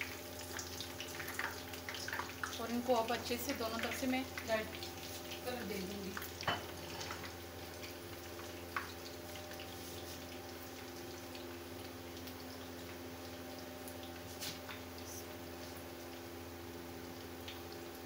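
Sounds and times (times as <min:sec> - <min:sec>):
bubbling sizzle of deep-frying: 0:00.0 - 0:18.0.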